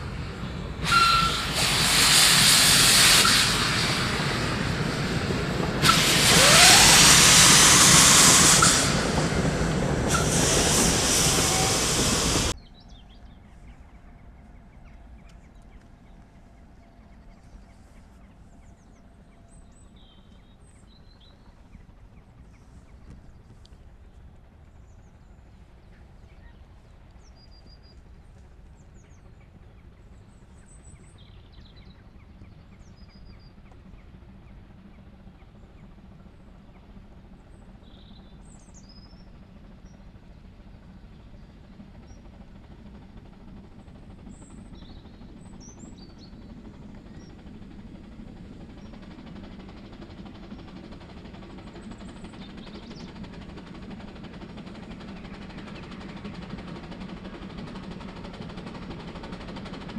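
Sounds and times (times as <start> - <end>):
steam train rumble: 0.0 - 59.9.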